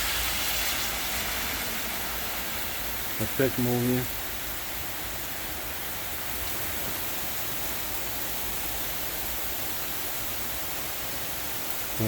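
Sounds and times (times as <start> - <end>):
heavy rain in strong wind: 0.0 - 12.0.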